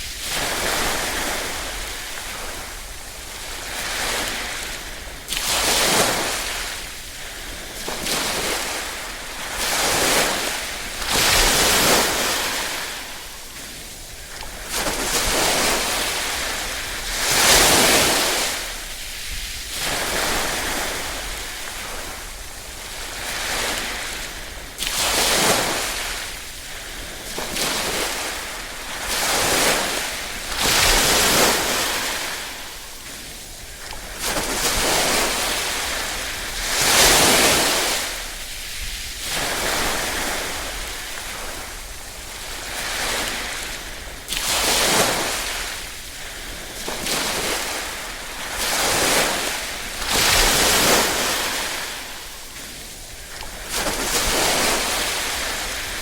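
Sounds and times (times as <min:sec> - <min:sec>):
gentle waves washing: 0:00.0 - 0:56.0.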